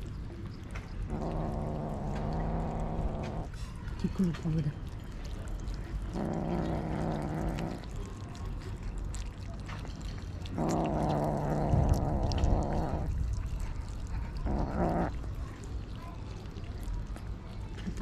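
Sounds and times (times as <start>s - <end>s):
kittens chewing meat: 0.0s - 18.0s.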